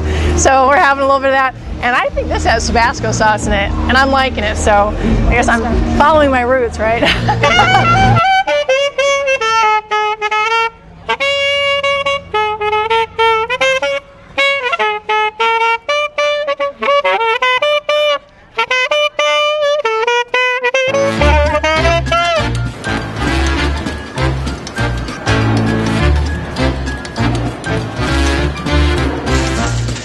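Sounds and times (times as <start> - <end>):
low accompanying instruments: 0.0 - 30.0
wind instrument jazz melody: 0.5 - 30.0.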